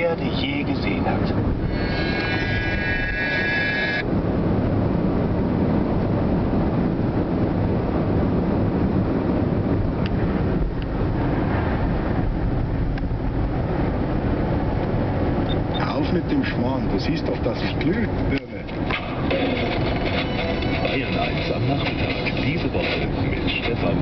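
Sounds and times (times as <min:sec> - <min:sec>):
tyre and wind noise in car: 0:00.0 - 0:24.0.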